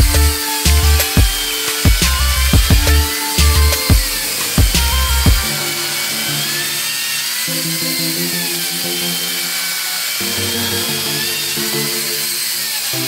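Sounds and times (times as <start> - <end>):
music with sustained chords: 0.0 - 13.0.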